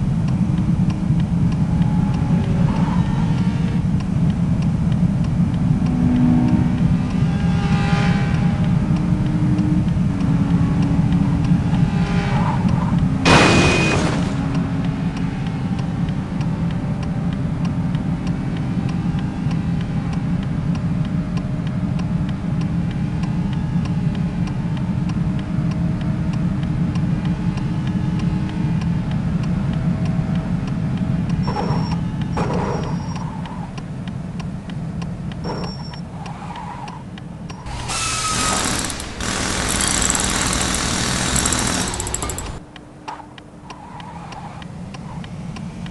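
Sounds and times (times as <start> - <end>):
vehicle engine rumbling: 0.0 - 45.9.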